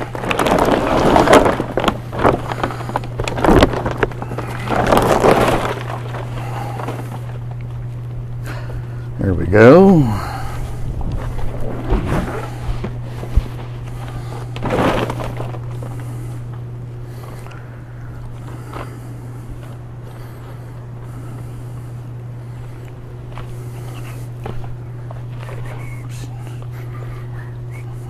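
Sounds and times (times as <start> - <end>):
rustling and handling noises: 0.0 - 28.0
steady low hum: 0.0 - 28.0.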